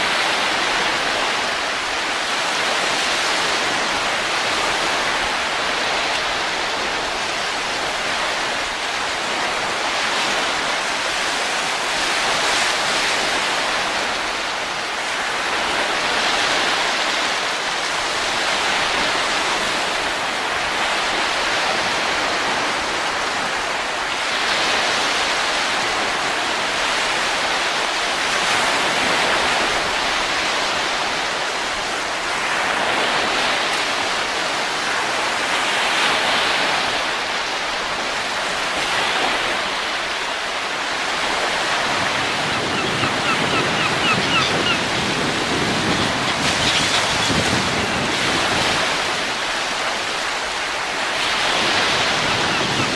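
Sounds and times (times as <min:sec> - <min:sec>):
rushing wind: 0:00.0 - 0:52.9.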